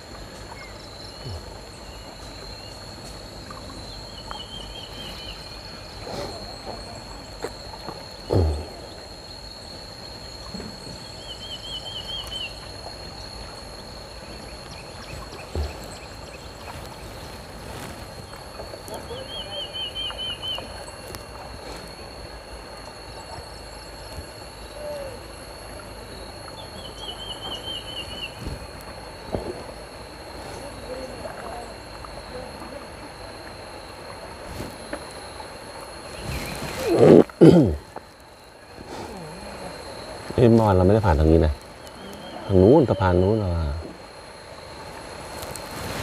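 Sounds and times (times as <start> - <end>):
outdoor background noise: 0.0 - 46.0.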